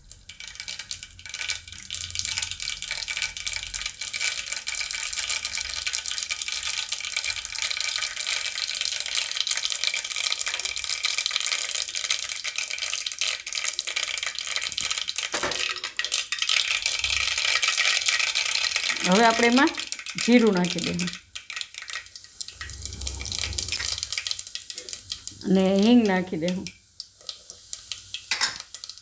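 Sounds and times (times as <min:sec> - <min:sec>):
seeds crackling in hot oil: 0:00.0 - 0:29.0.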